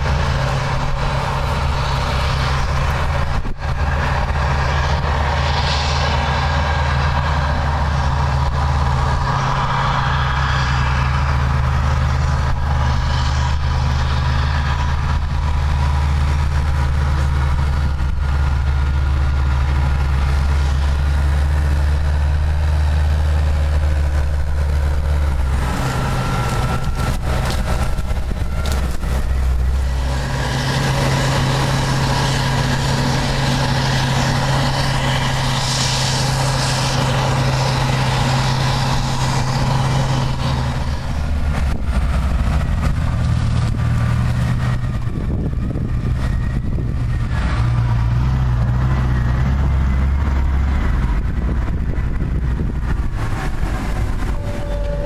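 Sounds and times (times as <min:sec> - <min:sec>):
harvester engine chopping: 0:00.0 - 0:55.0
tractor diesel engine: 0:00.0 - 0:55.0.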